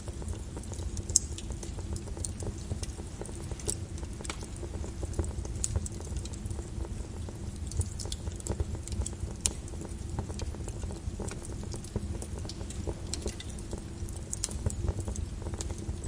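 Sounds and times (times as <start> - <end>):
lava crackling and popping: 0.0 - 16.0.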